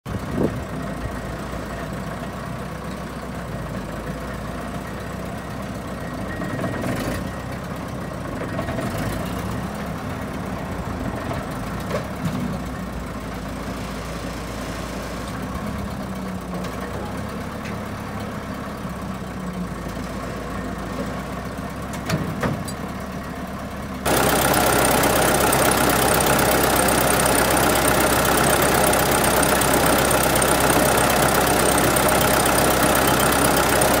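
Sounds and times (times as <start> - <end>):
skid steer engine running: 0.1 - 34.0.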